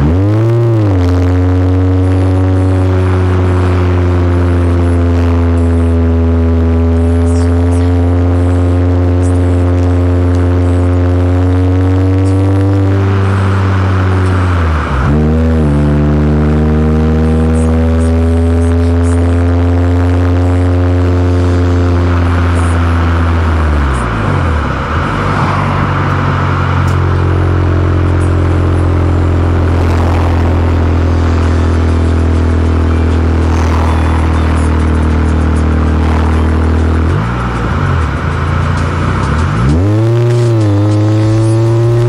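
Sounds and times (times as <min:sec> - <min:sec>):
car engine and exhaust cruising: 0:00.0 - 0:42.0.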